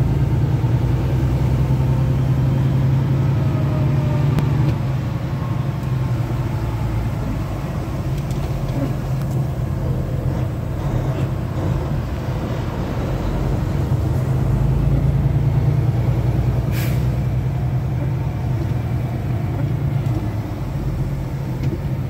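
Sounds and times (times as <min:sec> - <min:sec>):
road noise: 0:00.0 - 0:22.0
truck diesel engine droning: 0:00.0 - 0:22.0.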